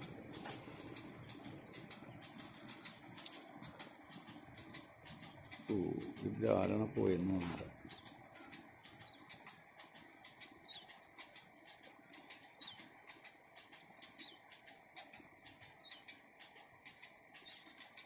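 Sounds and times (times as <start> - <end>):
faint clicks: 0.3 - 18.0.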